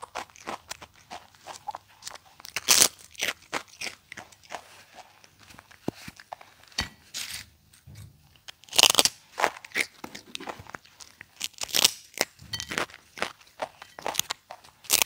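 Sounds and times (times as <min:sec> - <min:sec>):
monkey crunching crunchy snacks: 0:00.0 - 0:06.8, 0:08.4 - 0:15.0.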